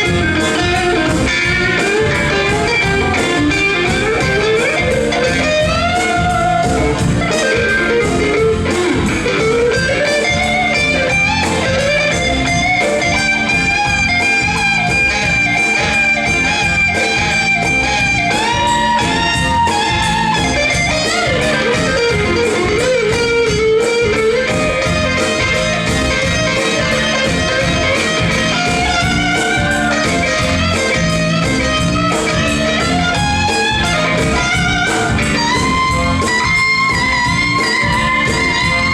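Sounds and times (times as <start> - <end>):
blues band playing: 0.0 - 38.9
electric guitar solo: 0.0 - 38.9.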